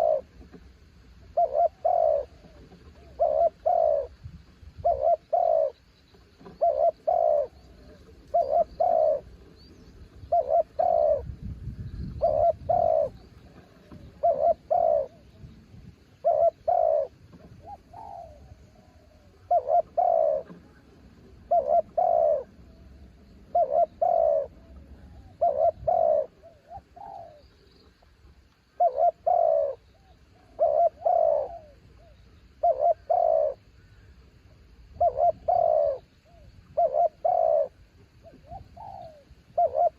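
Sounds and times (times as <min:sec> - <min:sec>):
dove cooing: 0:00.0 - 0:28.0, 0:28.7 - 0:39.9
wind rumble on microphone: 0:01.4 - 0:05.7, 0:06.4 - 0:18.8, 0:19.4 - 0:29.7, 0:34.8 - 0:39.9.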